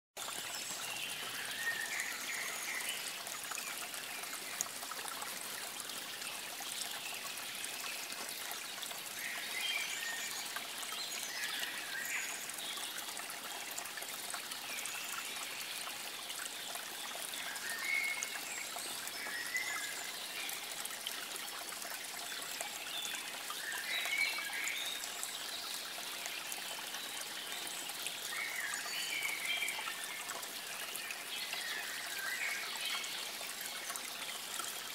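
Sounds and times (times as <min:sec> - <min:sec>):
water trickling: 0:00.2 - 0:34.9.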